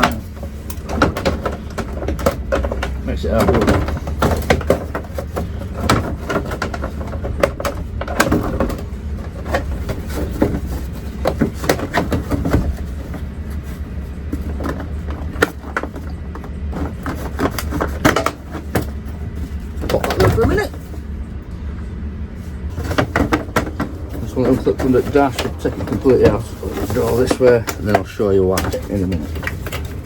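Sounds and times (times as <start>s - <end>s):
clicks and knocks of plastic trim: 0.0s - 13.3s, 14.2s - 20.9s, 22.7s - 30.0s
steady low hum: 0.0s - 30.0s.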